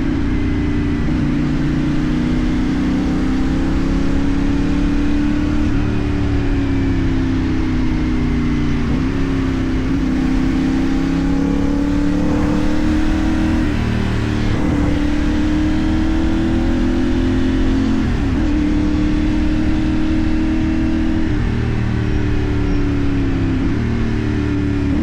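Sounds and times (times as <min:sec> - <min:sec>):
motorcycle engine upshifting: 0:00.3 - 0:25.0.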